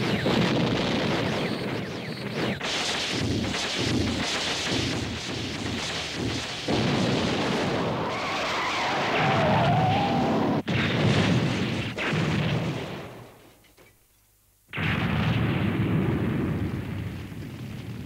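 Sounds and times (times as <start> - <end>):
explosions and blasts: 0.0 - 13.4, 14.7 - 18.0.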